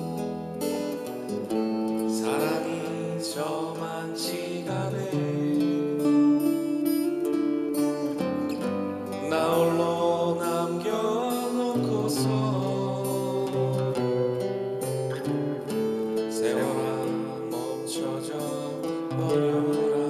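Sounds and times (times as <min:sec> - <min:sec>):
acoustic guitar melodic solo: 0:00.0 - 0:20.0.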